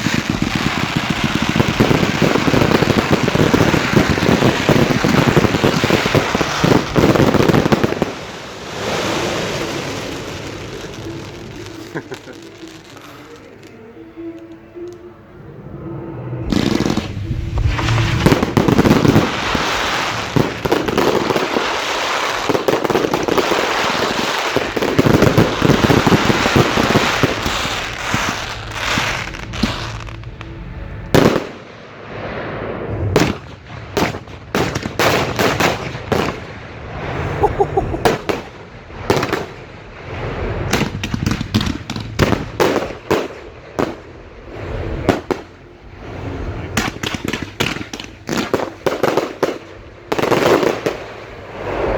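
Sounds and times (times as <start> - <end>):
fireworks crackling and bangs: 0.0 - 13.8, 16.4 - 51.9.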